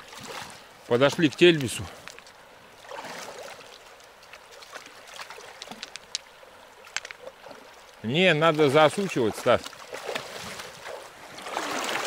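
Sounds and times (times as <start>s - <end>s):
river current: 0.0s - 12.0s
small splashes: 0.0s - 12.0s
water sloshing around legs: 0.0s - 12.0s.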